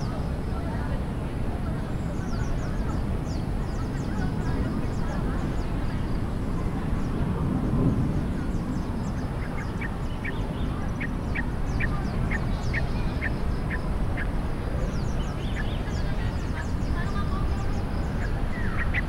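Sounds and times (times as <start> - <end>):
small birds chirping: 0.0 - 7.2, 8.2 - 19.0.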